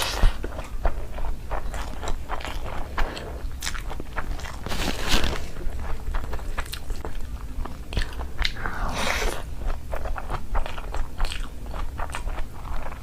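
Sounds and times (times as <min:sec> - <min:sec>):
person biting and chewing food: 0:00.0 - 0:13.0.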